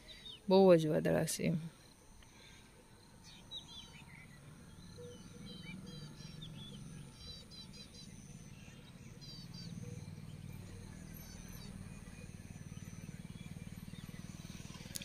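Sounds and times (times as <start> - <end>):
faint bird chirps: 0.0 - 0.6, 1.5 - 15.0.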